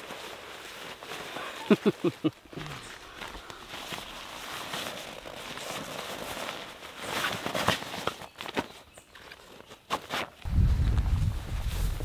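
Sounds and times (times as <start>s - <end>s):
fabric rustling in stuff sack: 0.0s - 12.0s.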